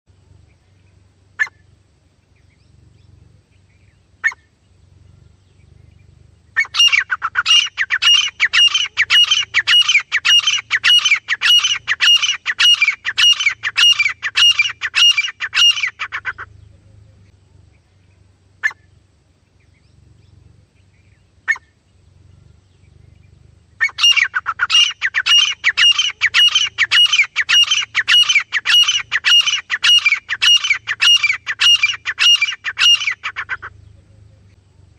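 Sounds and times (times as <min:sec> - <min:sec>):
francolin calling: 0:00.2 - 0:34.9.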